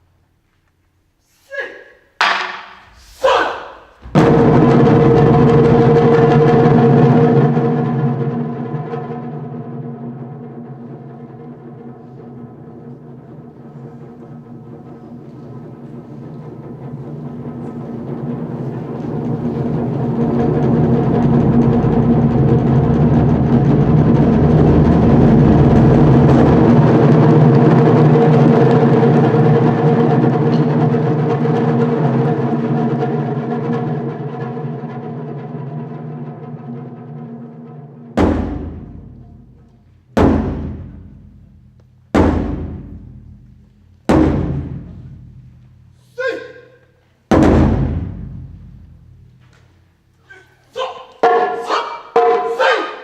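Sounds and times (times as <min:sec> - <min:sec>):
taiko drum roll: 0:02.1 - 0:46.3, 0:47.2 - 0:53.0.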